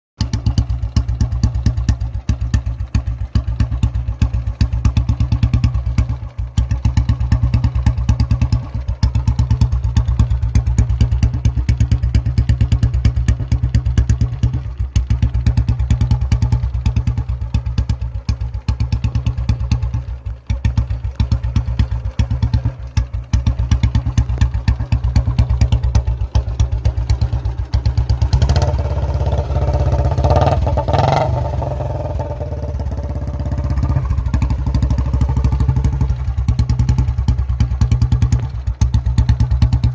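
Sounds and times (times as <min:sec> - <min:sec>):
motorcycle engine idling: 0:00.2 - 0:39.9.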